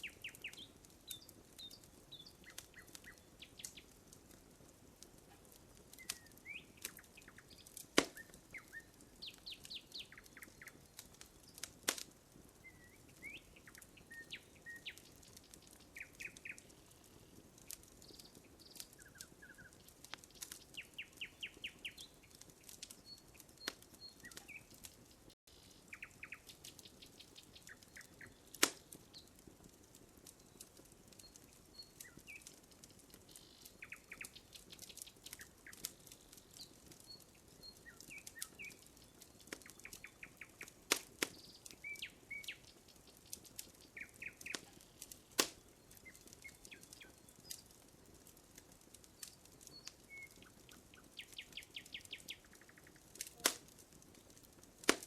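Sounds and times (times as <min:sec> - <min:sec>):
campfire crackling: 0:00.0 - 0:55.0
fire popping: 0:00.0 - 0:55.0
songbirds chirping: 0:00.0 - 0:55.0.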